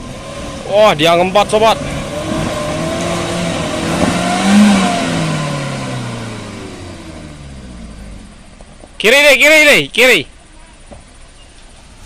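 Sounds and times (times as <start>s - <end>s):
truck engine revving uphill: 0.0s - 9.8s.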